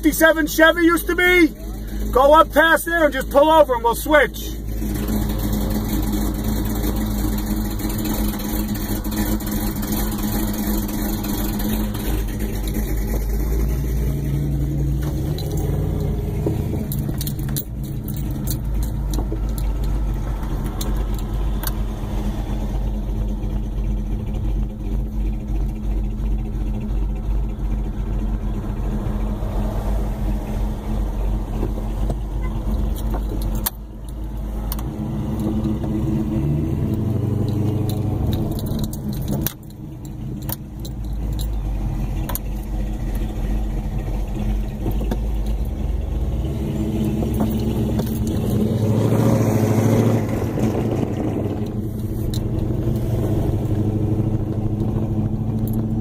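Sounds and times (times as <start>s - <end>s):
car engine rumbling at low speed: 0.0s - 56.0s.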